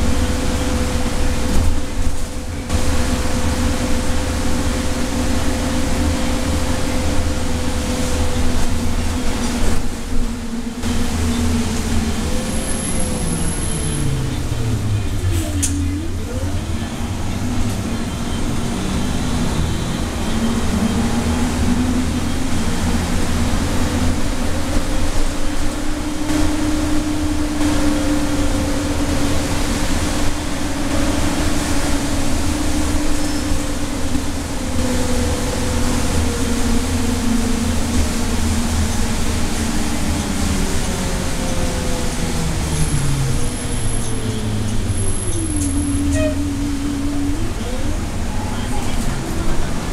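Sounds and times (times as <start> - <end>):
bus engine and drivetrain whine: 0.0 - 49.9.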